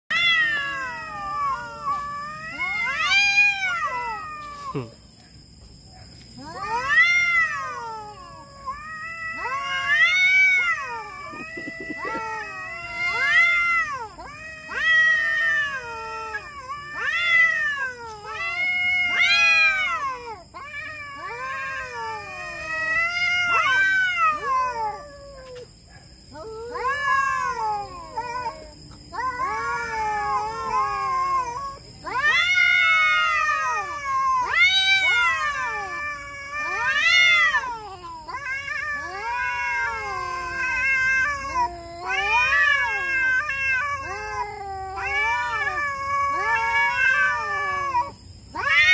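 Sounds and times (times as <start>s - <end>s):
cats caterwauling: 0.1s - 48.9s.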